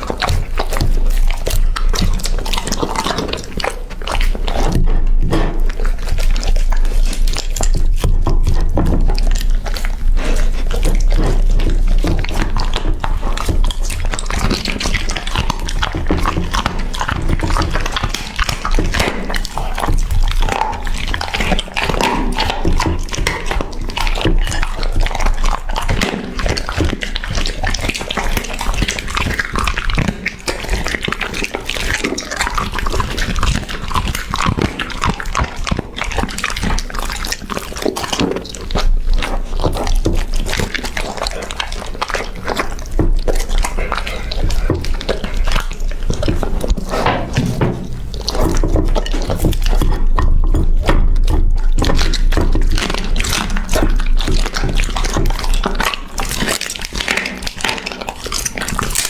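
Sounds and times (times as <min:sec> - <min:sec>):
dog chewing food: 0:00.0 - 0:59.0.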